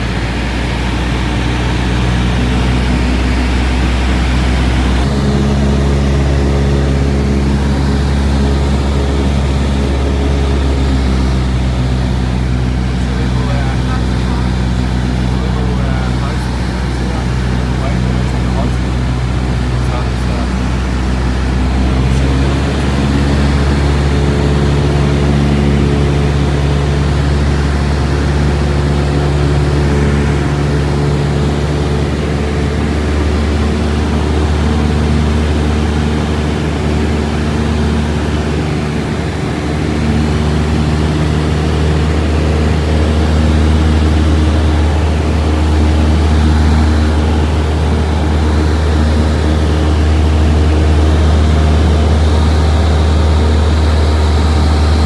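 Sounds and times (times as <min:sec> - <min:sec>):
airplane engine and propeller drone: 0:00.0 - 0:55.0.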